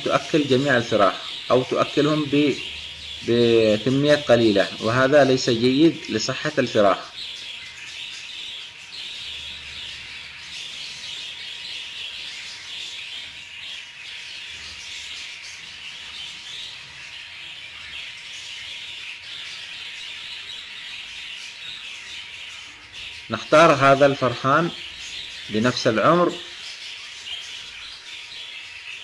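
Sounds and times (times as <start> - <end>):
budgerigars chirping and chattering: 0.0 - 29.0.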